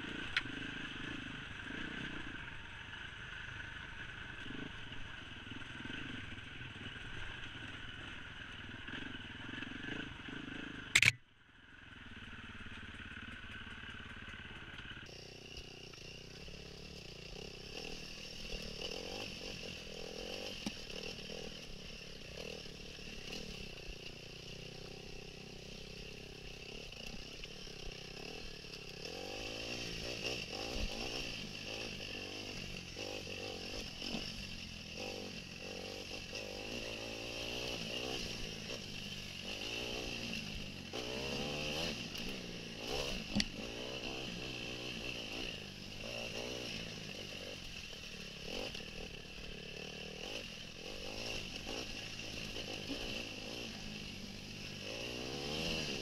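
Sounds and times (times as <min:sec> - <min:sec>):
dirt bike engine revving: 0:00.0 - 0:11.2, 0:11.9 - 0:56.0.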